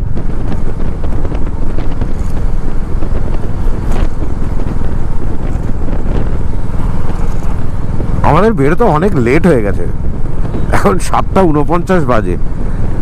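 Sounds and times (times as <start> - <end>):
motorcycle engine: 0.0 - 11.4
wind buffeting microphone: 0.0 - 13.0.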